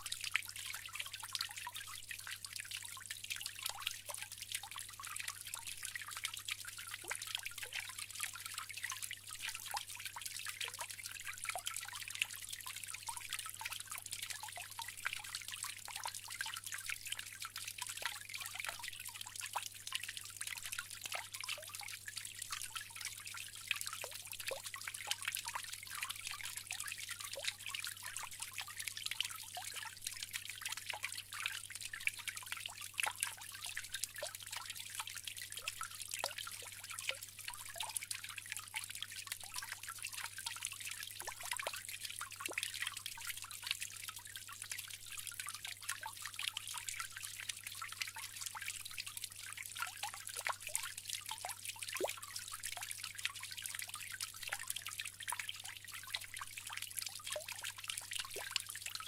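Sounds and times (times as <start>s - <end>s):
water fountain trickling: 0.0s - 59.0s.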